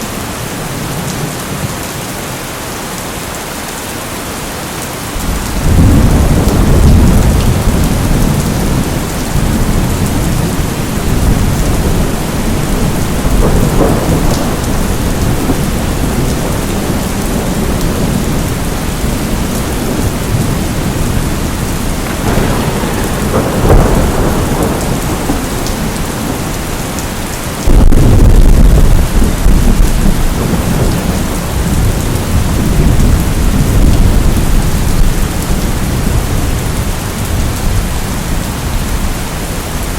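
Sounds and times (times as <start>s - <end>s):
heavy rain: 0.0s - 39.9s
thunder rumbling: 5.2s - 38.4s.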